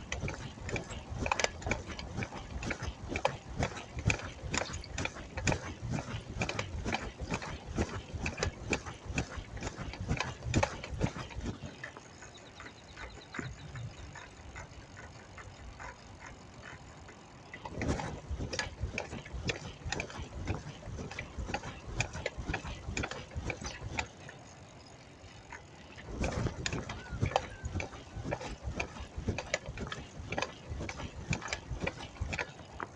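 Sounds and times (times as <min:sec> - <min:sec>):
bicycle clicking and rattling: 0:00.0 - 0:32.9
freewheel ratchet ticking: 0:00.0 - 0:32.9.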